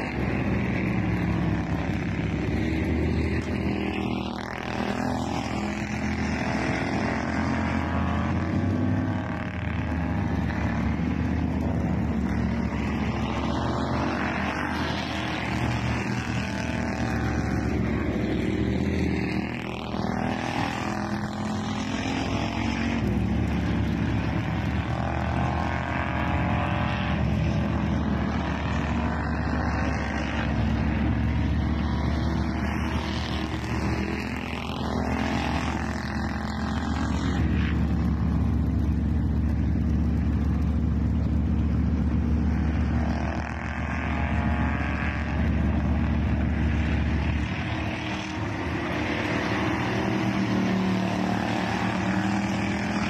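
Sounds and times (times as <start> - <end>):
race car engines passing: 0.0 - 53.0.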